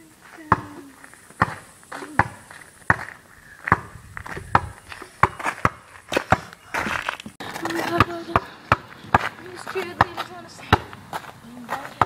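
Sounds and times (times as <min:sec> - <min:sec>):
basketball bouncing on pavement: 0:00.3 - 0:12.0.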